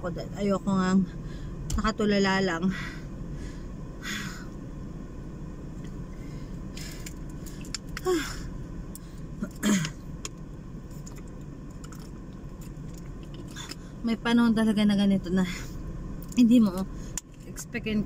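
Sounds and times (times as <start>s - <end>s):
low car cabin hum: 0.0s - 18.0s.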